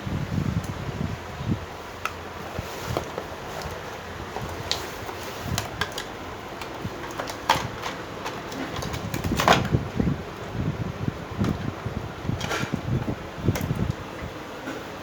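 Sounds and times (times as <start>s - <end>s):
steady fan hum: 0.0s - 15.0s.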